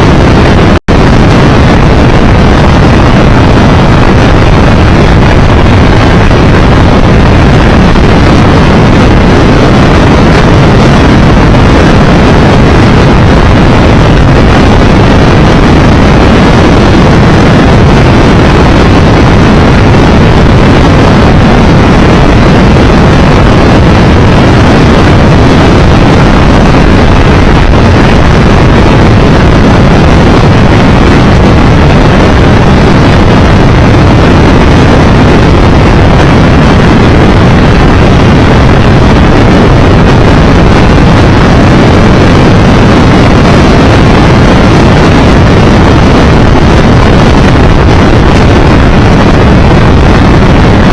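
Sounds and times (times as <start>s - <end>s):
wind rush on microphone: 0.0s - 50.9s.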